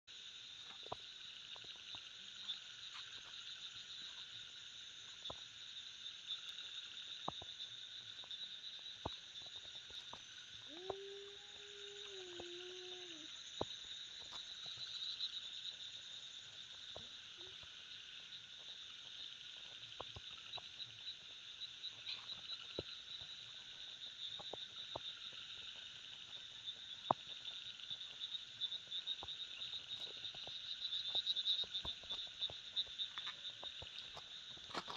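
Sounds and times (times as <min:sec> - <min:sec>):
pulsing trill of night creatures: 0:00.2 - 0:34.9.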